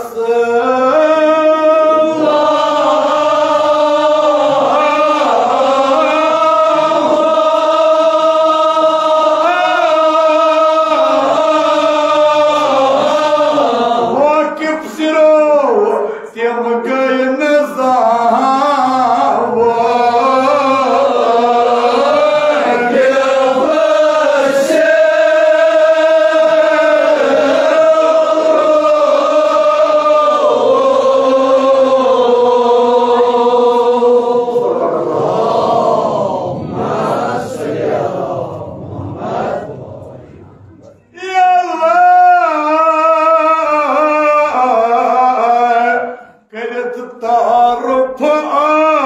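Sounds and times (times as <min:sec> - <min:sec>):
man chanting into a microphone: 0:00.0 - 0:35.1, 0:39.6 - 0:49.0.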